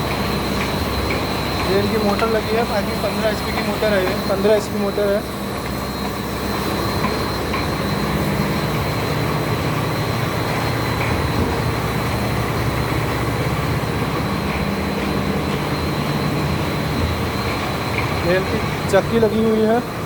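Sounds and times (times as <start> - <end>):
flour mill motor hum and rumble: 0.0 - 20.0
high whine: 0.0 - 20.0.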